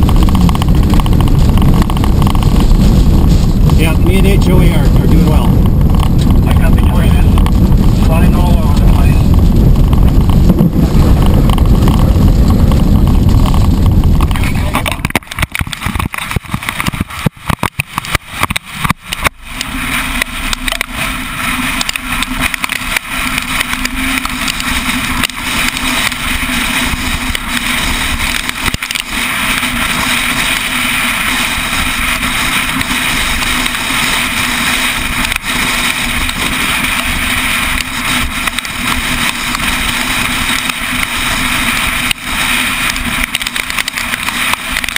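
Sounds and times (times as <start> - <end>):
vehicle engine and road noise: 0.0 - 44.9
wind rumble on microphone: 0.0 - 44.9.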